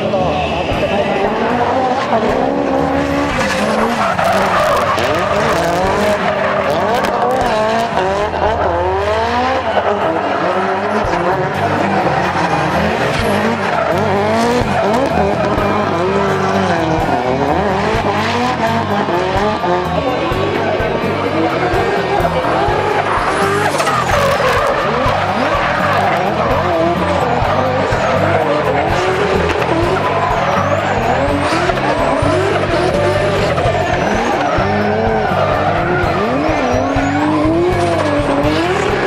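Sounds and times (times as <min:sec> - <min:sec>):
car engine revving: 0:00.0 - 0:39.0
tyres squealing: 0:00.0 - 0:39.0.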